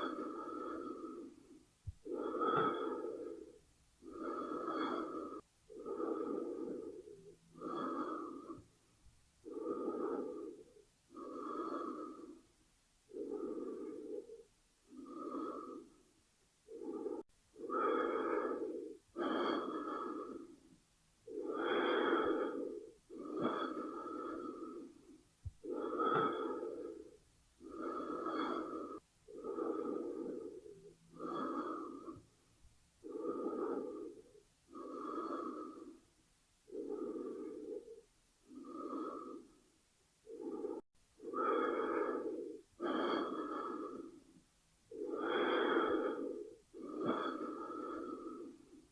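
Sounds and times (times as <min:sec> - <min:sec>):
person breathing slowly: 0:00.0 - 0:48.9.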